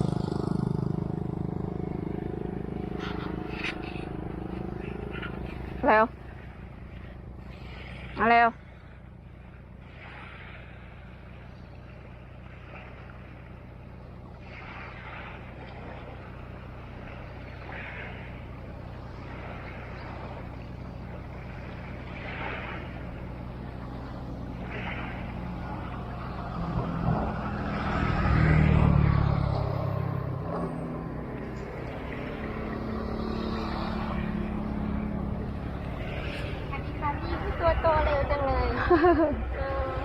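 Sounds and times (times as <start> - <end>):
loud vehicle passing: 0.0 - 40.0
vehicle engine running: 0.0 - 40.0.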